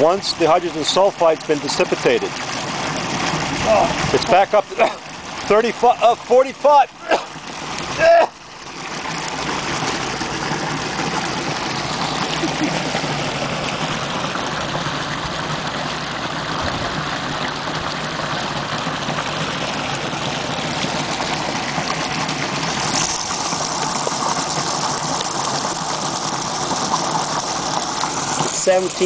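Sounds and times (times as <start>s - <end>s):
water gushing from pipe: 0.0s - 29.0s.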